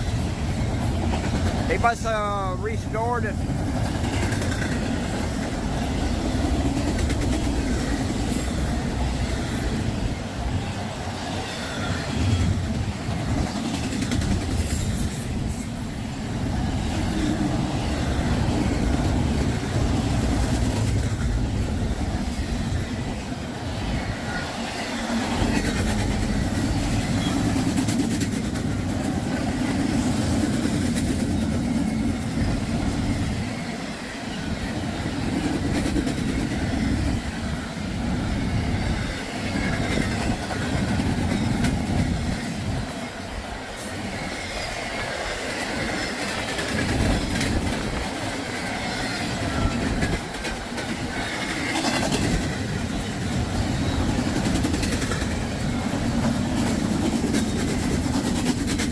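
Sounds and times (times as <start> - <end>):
freight train wheels clacking: 0.0 - 58.9.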